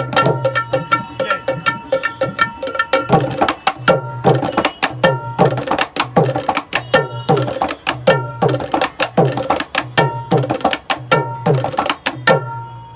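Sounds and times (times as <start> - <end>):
hand drum played fast: 0.0 - 12.6.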